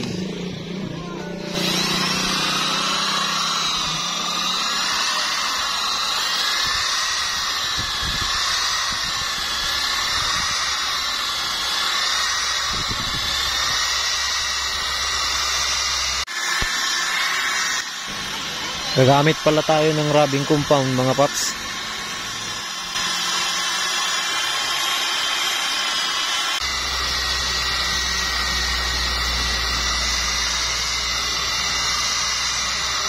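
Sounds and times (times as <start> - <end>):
electric drill motor whine: 0.0 - 33.0.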